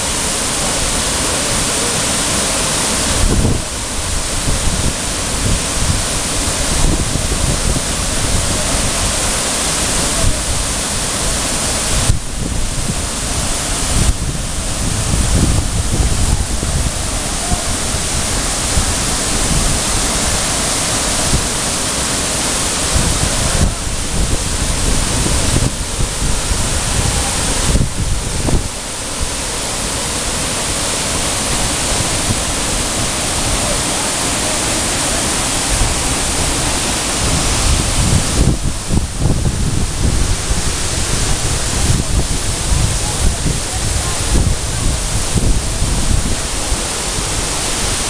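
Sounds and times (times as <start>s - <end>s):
waterfall rushing: 0.0s - 48.0s
wind rumbling on microphone: 0.0s - 48.0s.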